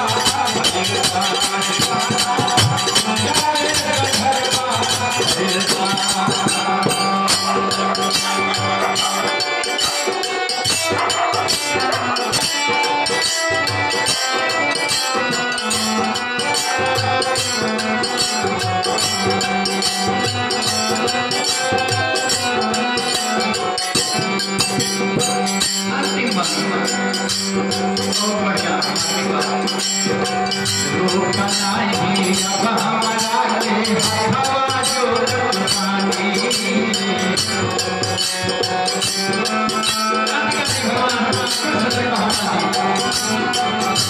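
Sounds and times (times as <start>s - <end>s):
dholak drum beat: 0.0s - 44.0s
harmonium holding notes: 0.0s - 44.0s.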